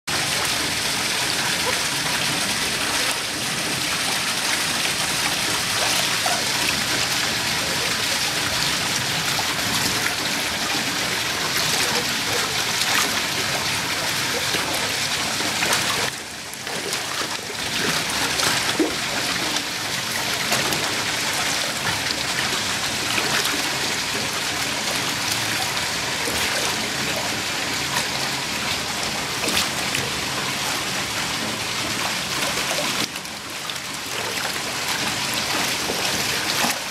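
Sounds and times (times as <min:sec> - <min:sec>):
otters splashing in water: 0:00.1 - 0:36.9
rushing water: 0:00.1 - 0:36.9.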